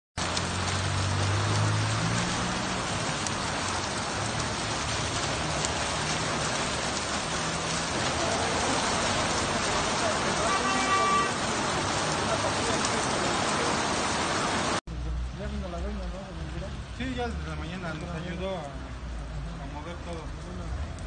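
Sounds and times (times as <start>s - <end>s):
rain falling on wet ground: 0.2s - 21.0s.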